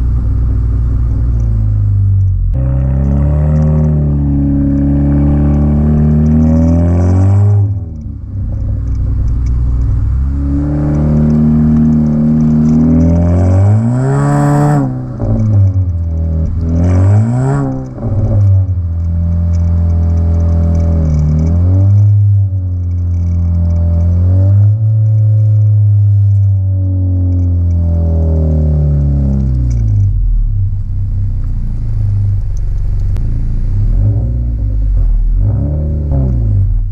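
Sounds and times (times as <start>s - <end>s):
car exhaust drone and revving: 0.0s - 36.9s.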